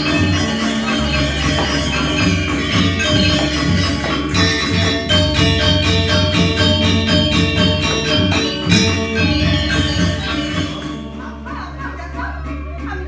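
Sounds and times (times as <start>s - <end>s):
hand drum beats: 0.0s - 11.8s.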